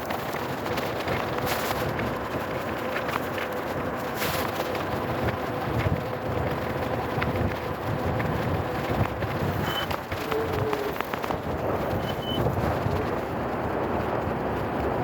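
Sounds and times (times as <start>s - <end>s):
small clicks and rattles: 0.0s - 15.0s
tyres on road: 0.0s - 15.0s
wind on microphone: 0.0s - 15.0s.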